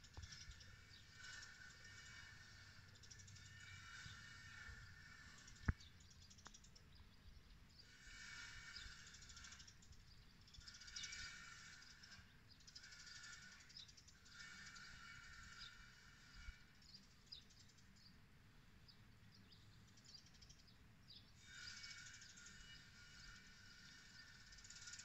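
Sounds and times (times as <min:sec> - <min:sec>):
faint trilled birdsong: 0:00.0 - 0:25.0.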